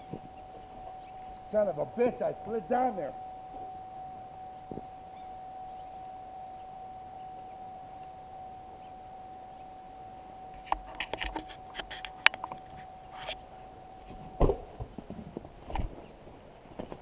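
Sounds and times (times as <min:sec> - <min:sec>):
steady thin tone: 0:00.0 - 0:14.8
low hiss: 0:00.0 - 0:17.0.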